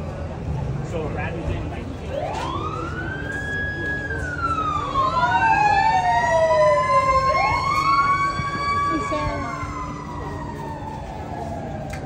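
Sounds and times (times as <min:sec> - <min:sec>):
low street hum: 0:00.0 - 0:12.0
emergency sirens wailing: 0:00.1 - 0:12.0.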